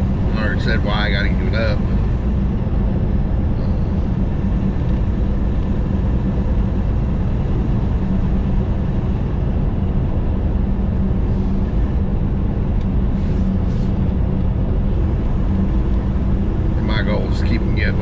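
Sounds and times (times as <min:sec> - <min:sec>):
road noise: 0:00.0 - 0:18.0
truck engine drone: 0:00.0 - 0:18.0.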